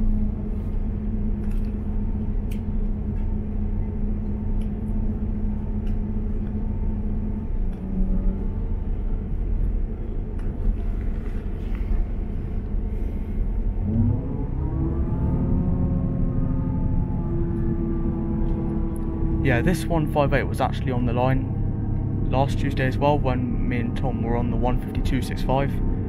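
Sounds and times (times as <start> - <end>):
engine low hum: 0.0 - 26.0.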